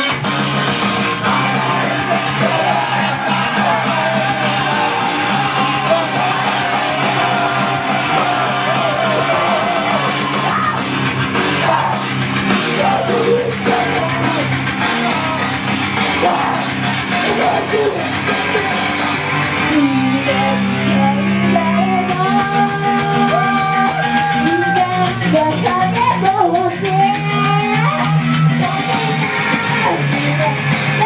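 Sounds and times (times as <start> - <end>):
live rock music: 0.0 - 31.0
person singing: 1.2 - 18.9, 19.6 - 31.0.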